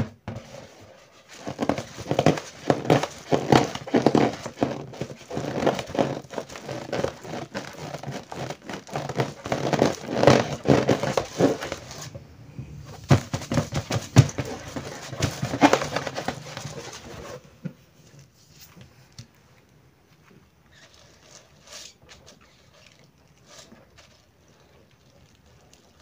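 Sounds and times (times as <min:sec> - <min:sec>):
rubbery squeaks on a balloon: 0:00.0 - 0:12.1, 0:13.1 - 0:17.4, 0:20.7 - 0:25.1.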